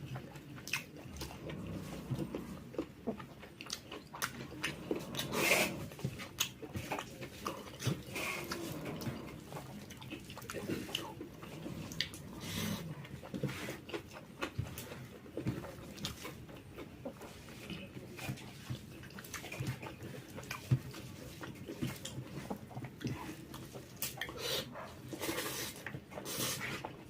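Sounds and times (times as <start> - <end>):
chewing and mouth smacks: 0.0 - 27.0.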